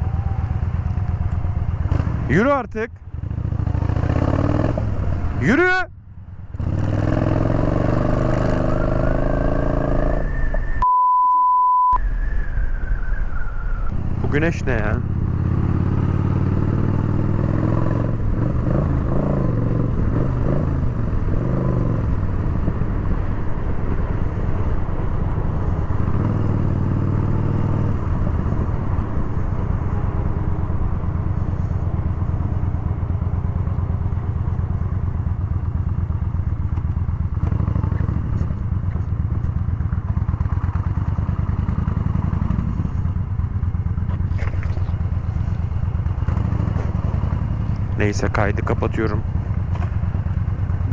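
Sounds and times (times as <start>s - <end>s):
motorcycle engine running: 0.0s - 10.2s, 13.9s - 50.9s.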